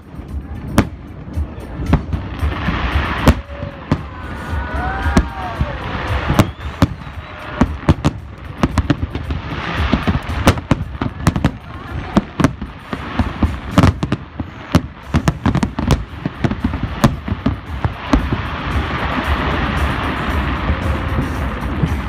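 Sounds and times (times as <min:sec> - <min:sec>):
firework shells bursting: 0:01.8 - 0:22.0.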